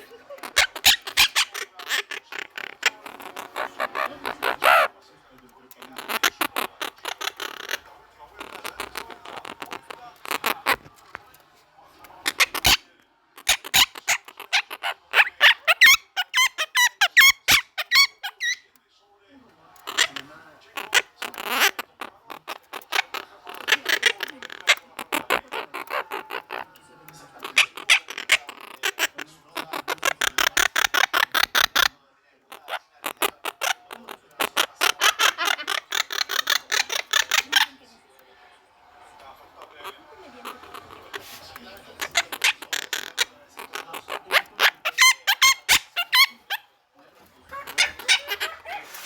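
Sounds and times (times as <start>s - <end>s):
parrot calling: 0.0s - 11.4s, 12.0s - 18.8s, 19.8s - 49.0s.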